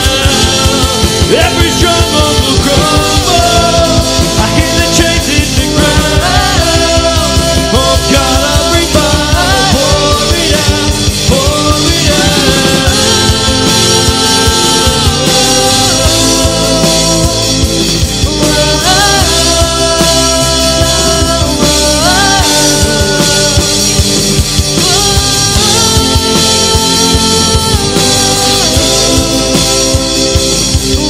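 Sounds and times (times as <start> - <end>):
acoustic guitar: 0.0 - 31.0
bass: 0.0 - 31.0
drum kit beat: 0.0 - 31.0
keyboard: 0.0 - 31.0
people singing: 0.0 - 31.0.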